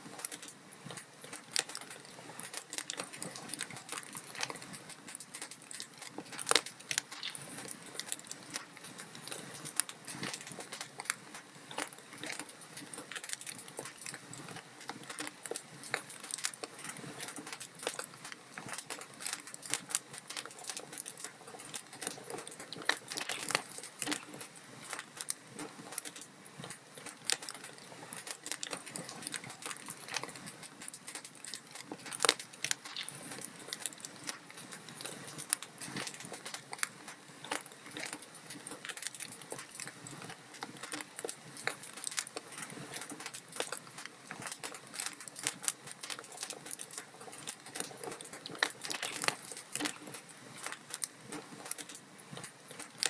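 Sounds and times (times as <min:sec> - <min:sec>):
logs crackling in a fireplace: 0:00.0 - 0:53.0.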